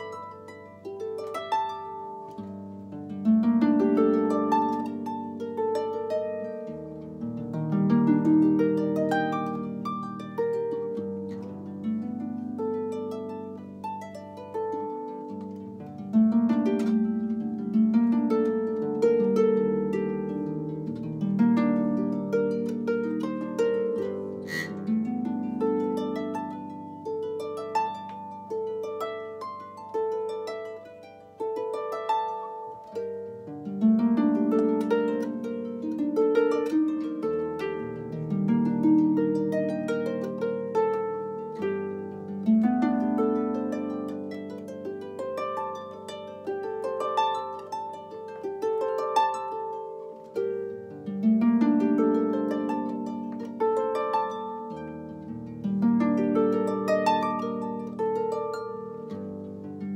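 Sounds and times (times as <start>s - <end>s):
solo harp plucked: 0.0s - 59.9s.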